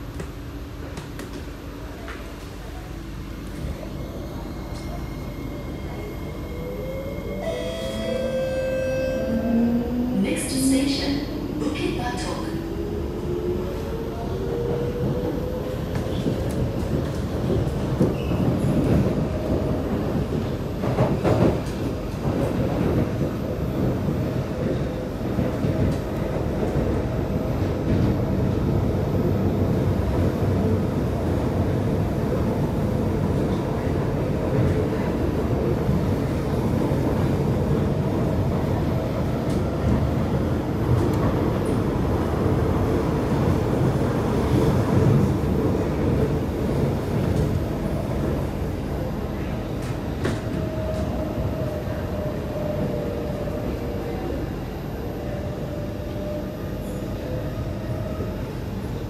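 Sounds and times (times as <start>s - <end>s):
train wheel-on-rail rumble: 0.0s - 59.0s.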